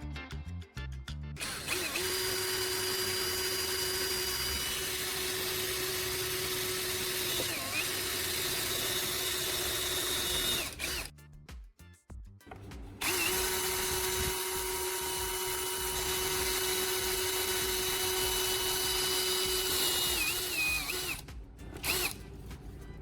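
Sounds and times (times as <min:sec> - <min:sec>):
small motor running: 0:01.4 - 0:11.1, 0:12.6 - 0:23.0.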